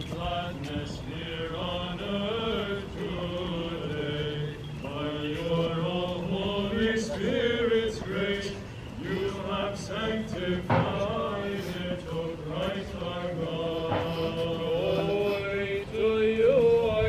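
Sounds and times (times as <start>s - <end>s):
voices chanting a slow hymn: 0.0s - 17.0s.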